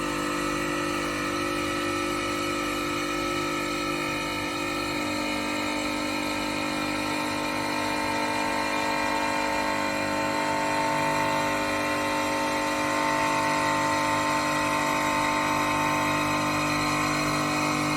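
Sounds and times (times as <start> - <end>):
stone-cutting machine whine: 0.0 - 17.9.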